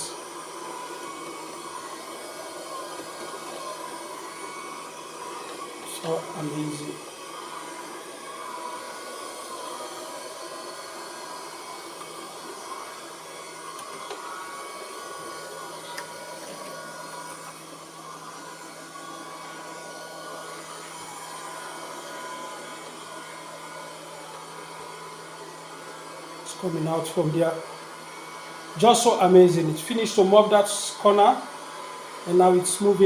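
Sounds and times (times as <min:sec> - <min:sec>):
robot vacuum motor whir: 0:00.0 - 0:33.0.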